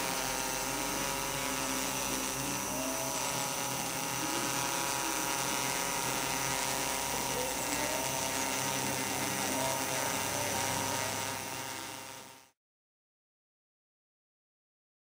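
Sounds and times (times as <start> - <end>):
quadcopter propellers whining: 0.0 - 12.6.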